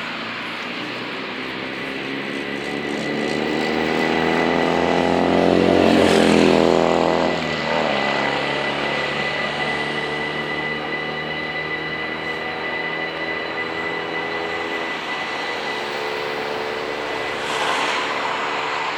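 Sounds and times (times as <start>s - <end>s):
crossing warning bells ringing: 0.0s - 17.4s
electric train passing: 0.0s - 18.9s.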